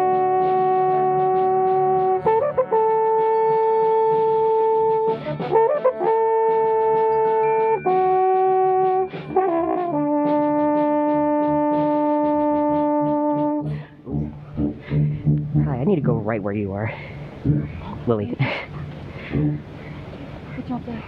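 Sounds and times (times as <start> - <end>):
brass instrument long held notes: 0.0 - 18.4, 19.1 - 20.0.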